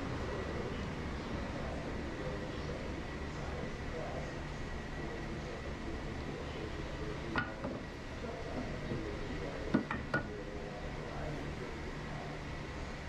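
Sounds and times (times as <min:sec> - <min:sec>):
indoor background hum: 0:00.0 - 0:13.0.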